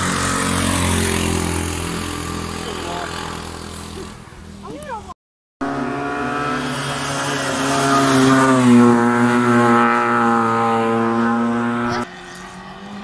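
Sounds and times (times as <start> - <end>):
race car engine at high revs: 0.0 - 4.2, 5.6 - 13.0.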